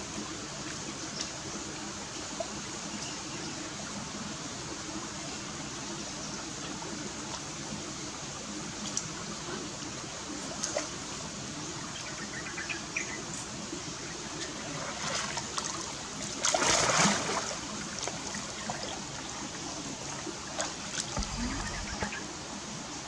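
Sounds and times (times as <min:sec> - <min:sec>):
stream water trickling: 0:00.0 - 0:23.0.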